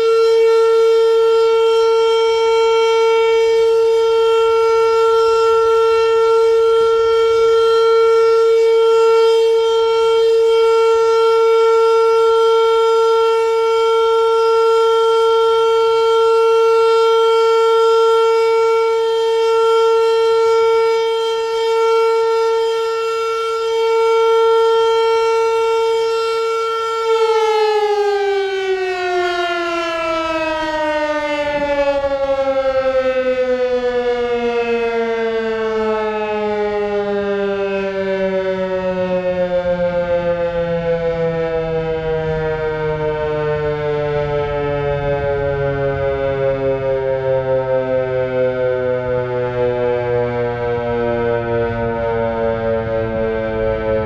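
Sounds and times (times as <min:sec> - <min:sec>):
tornado siren steady tone: 0:00.0 - 0:54.0.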